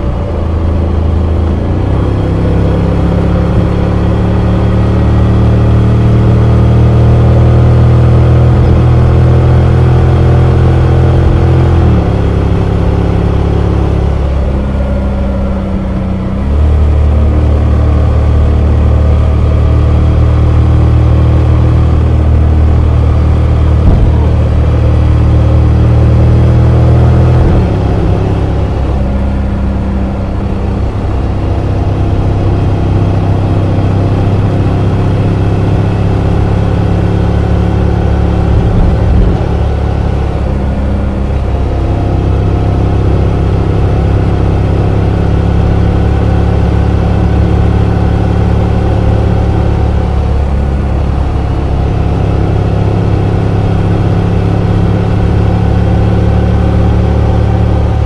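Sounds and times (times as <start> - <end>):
motorcycle engine drone: 0.0 - 58.0.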